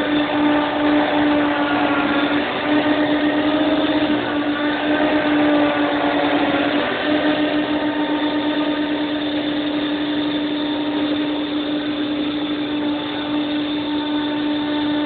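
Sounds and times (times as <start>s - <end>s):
vacuum cleaner motor running: 0.0s - 15.0s.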